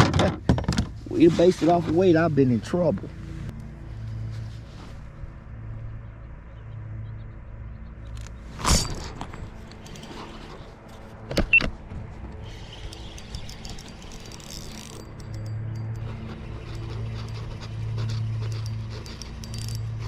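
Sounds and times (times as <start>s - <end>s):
low mechanical hum: 1.7s - 20.0s.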